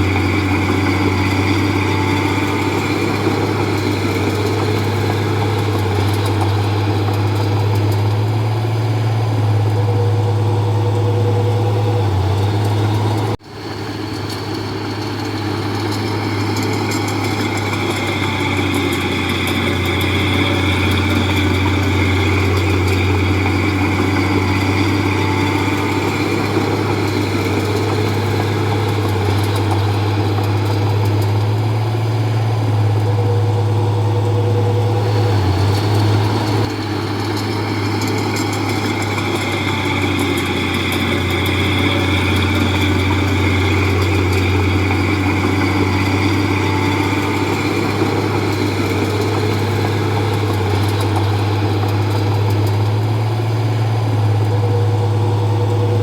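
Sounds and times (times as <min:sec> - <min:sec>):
bulldozer diesel engine running: 0:00.0 - 0:56.0
engine whine: 0:00.0 - 0:56.0.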